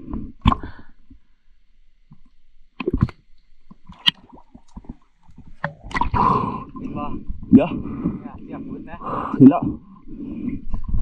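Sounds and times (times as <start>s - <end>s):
faint low water sloshing: 0.7s - 10.8s.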